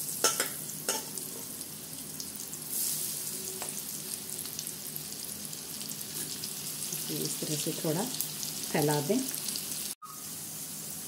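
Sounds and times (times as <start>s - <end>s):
okra frying in oil: 0.0s - 11.0s.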